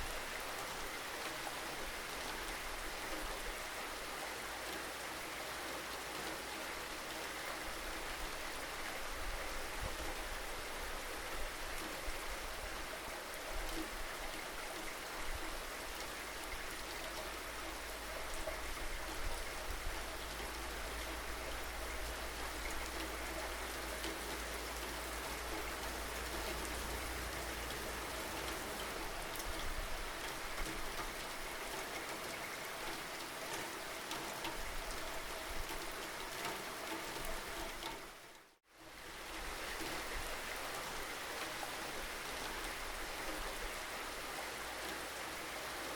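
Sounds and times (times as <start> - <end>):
steady rainfall: 0.0 - 45.9.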